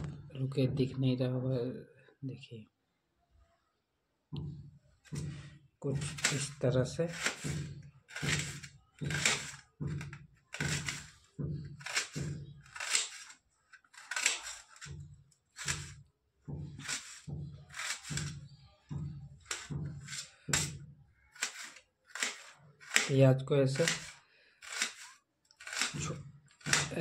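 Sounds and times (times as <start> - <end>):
knife chopping onion on steel: 5.1 - 27.0.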